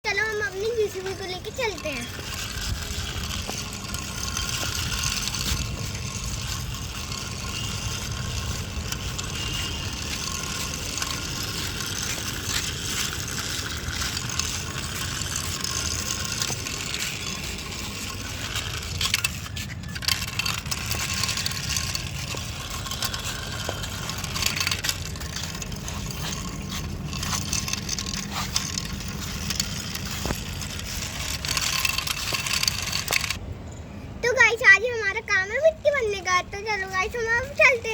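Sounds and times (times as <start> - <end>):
scraping and rattling: 0.0 - 33.4
small clicks: 0.6 - 33.4.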